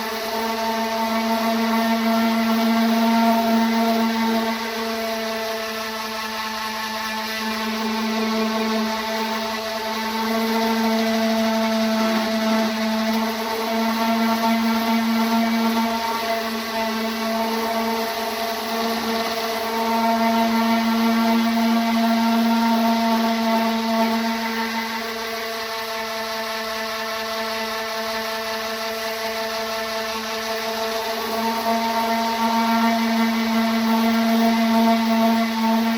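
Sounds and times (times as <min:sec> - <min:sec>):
orbital sander running: 0:00.0 - 0:35.9.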